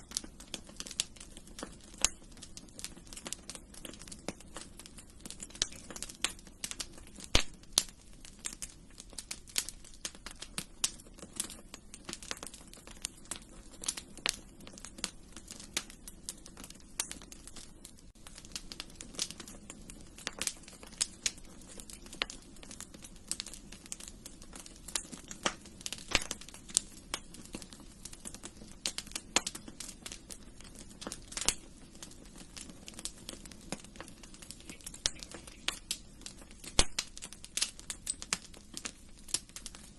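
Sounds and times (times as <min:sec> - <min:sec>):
hiss of burning: 0:00.0 - 0:39.9
wood fire crackling: 0:00.0 - 0:39.9.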